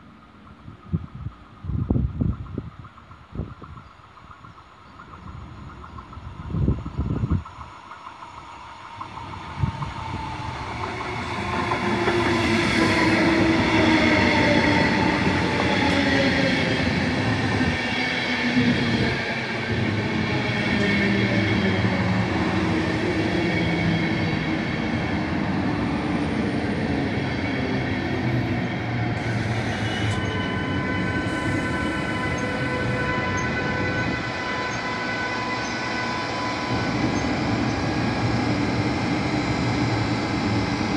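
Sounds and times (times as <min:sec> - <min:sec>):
train coaches rolling on rails: 0:00.4 - 0:40.9
locomotive high whine: 0:05.0 - 0:40.9.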